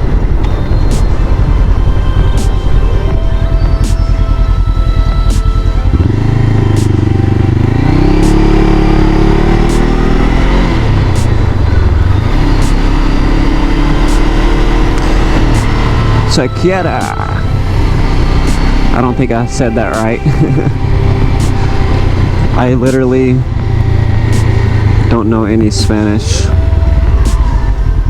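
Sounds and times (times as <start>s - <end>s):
motorcycle engine revving: 0.0s - 28.0s
wind and road noise: 0.0s - 28.0s.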